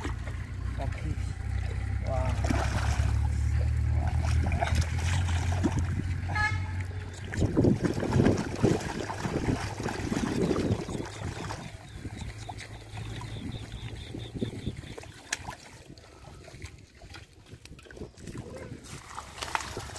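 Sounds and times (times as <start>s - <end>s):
hands splashing in muddy water: 0.0s - 19.9s.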